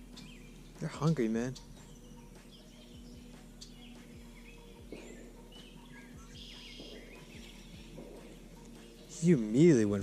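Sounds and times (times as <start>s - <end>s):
outdoor background noise: 0.0s - 10.0s
songbirds chirping: 0.0s - 10.0s.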